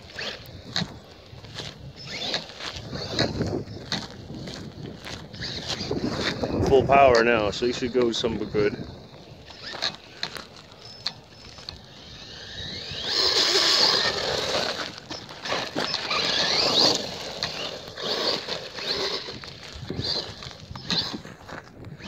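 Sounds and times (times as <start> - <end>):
rc car motor whine: 0.0 - 22.0.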